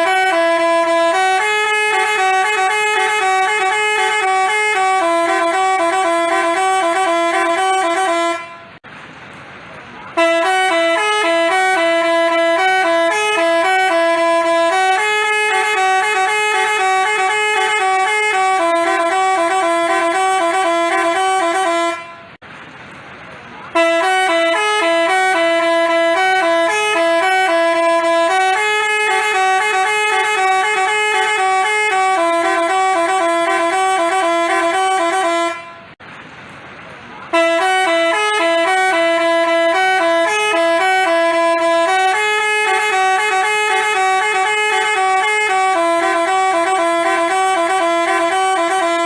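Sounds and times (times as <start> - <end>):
multi-tone bus horn melody: 0.0 - 8.8, 10.0 - 22.4, 23.6 - 36.0, 37.3 - 49.0.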